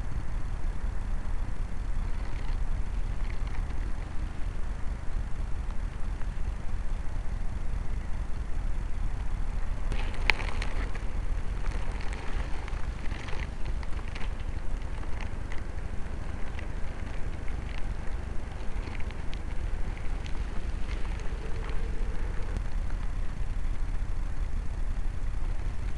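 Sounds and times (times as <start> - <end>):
light crackles and ticks: 0.0 - 25.9
wind buffeting microphone: 0.0 - 25.9.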